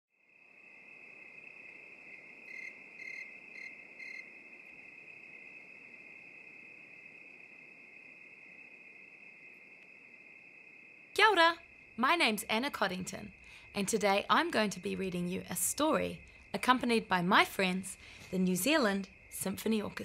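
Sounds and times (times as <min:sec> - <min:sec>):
crickets trilling: 0:00.2 - 0:20.0
loud cricket chirps: 0:00.2 - 0:20.0.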